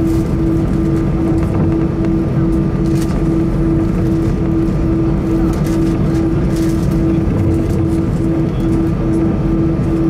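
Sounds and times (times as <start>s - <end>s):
engine and air-conditioning rumble: 0.0s - 10.0s
pulsing hum: 0.0s - 10.0s
thin steady whine: 0.0s - 10.0s.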